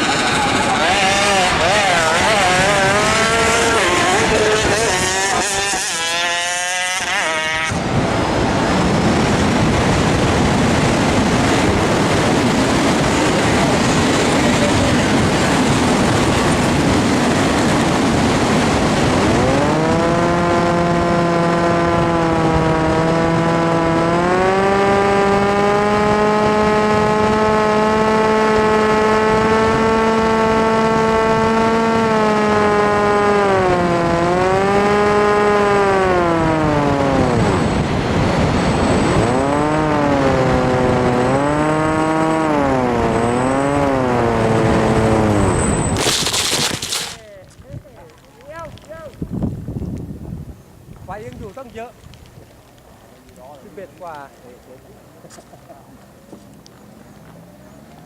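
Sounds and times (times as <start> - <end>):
drone motor and propeller whining: 0.0 - 47.2.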